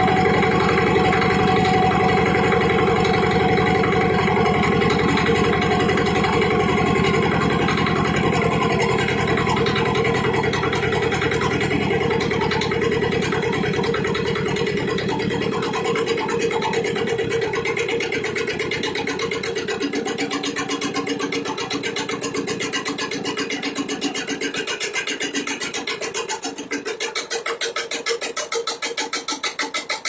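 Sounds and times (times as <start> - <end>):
tiller diesel engine running: 0.0 - 30.0.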